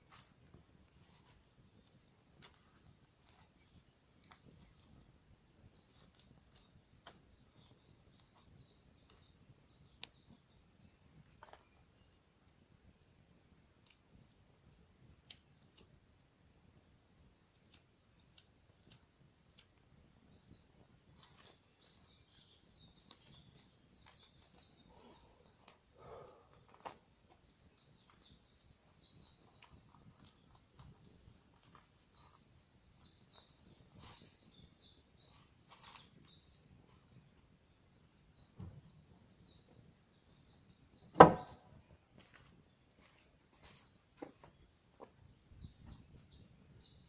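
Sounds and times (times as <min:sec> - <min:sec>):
campfire crackles: 0:00.0 - 0:40.9, 0:41.6 - 0:47.0
faint bird chirping: 0:00.0 - 0:47.0.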